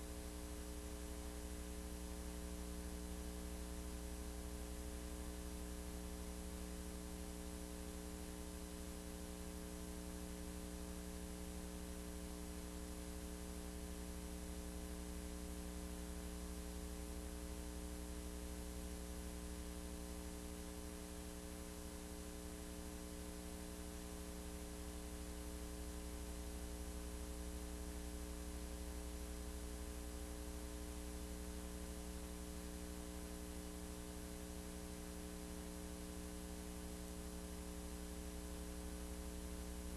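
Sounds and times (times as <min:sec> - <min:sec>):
electrical mains hum with hiss: 0:00.0 - 0:39.9.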